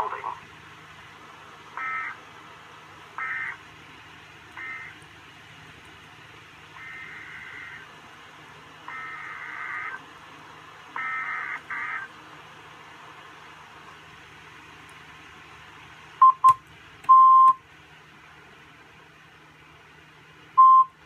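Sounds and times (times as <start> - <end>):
low hiss and hum: 0.0 - 21.0.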